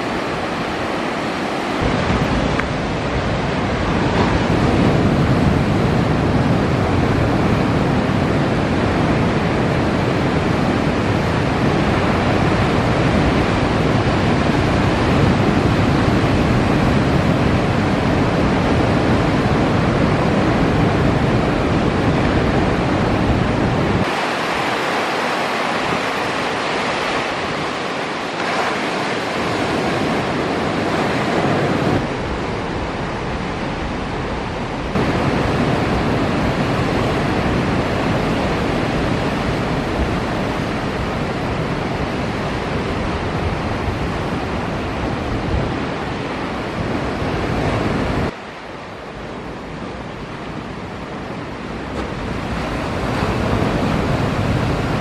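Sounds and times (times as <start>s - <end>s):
wind buffeting microphone: 0.0s - 48.4s, 49.1s - 55.0s
waves breaking: 0.0s - 55.0s.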